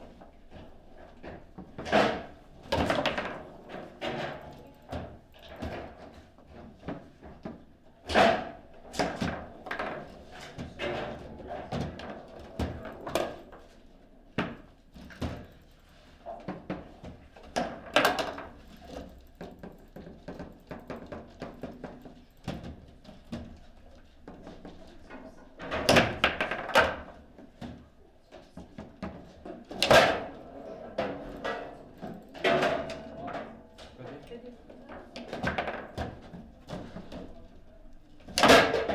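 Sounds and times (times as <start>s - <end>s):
foosball ball and rods clacking: 0.5s - 34.1s, 34.9s - 37.4s, 38.2s - 38.9s.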